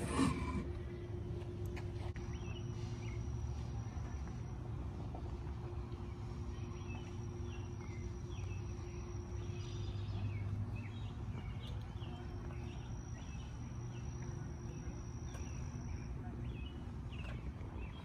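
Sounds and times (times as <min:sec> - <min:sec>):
birds chirping: 0:00.0 - 0:18.0
low steady rumble: 0:00.0 - 0:18.0.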